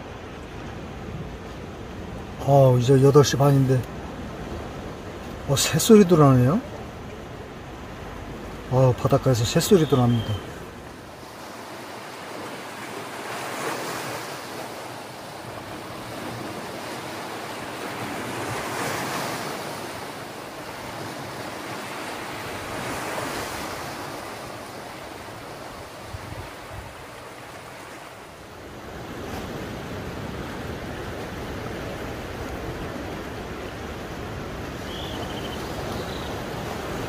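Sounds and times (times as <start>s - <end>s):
sea waves washing over rocks: 0.0s - 37.0s.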